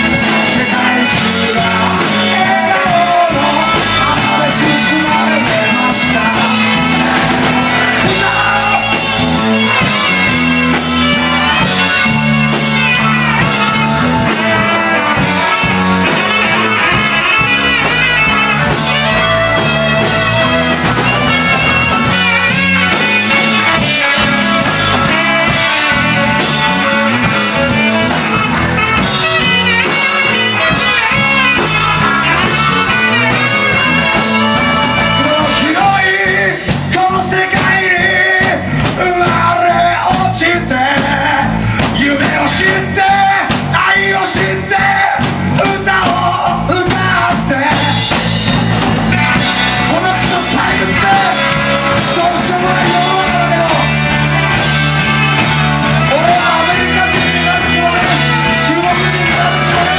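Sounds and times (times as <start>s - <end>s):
melodic guitar lead: 0.0s - 59.9s
rock band playing: 0.0s - 59.9s.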